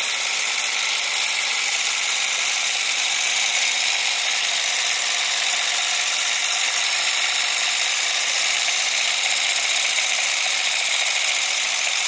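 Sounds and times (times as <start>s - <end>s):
model steam engine whirring: 0.0s - 12.0s.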